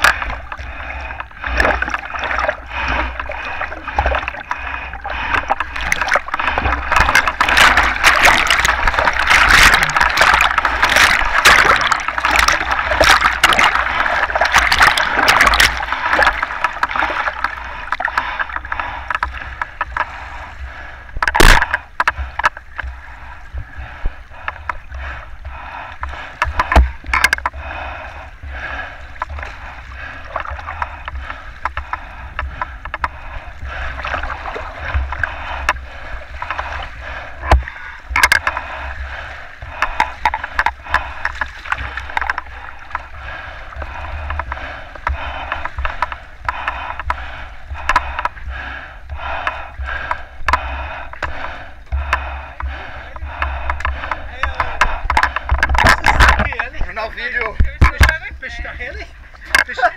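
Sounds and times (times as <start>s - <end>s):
sea water splashing and gurgling: 0.0s - 59.9s.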